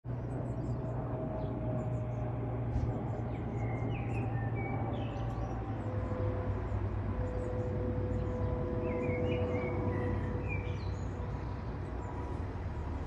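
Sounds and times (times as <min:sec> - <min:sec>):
jet engine rumble: 0:00.1 - 0:13.0.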